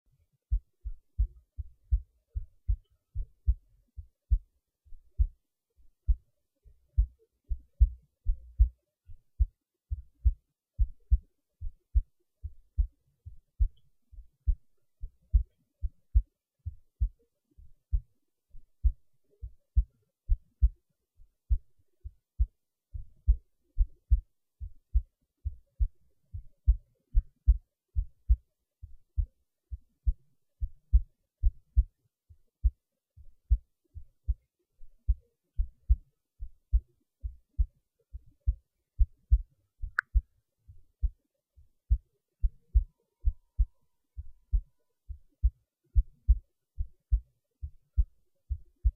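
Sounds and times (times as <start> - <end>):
heartbeat thumps: 0.5 - 20.8, 21.4 - 41.2, 41.9 - 48.9.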